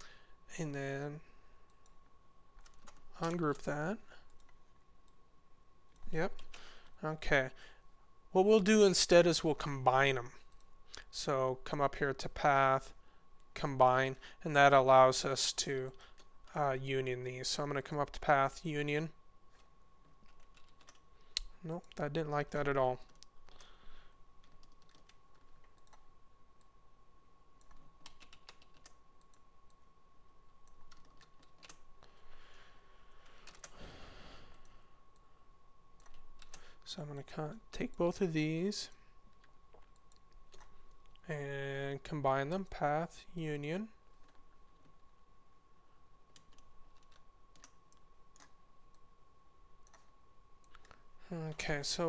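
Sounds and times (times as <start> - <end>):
faint high whine: 0.0 - 52.0.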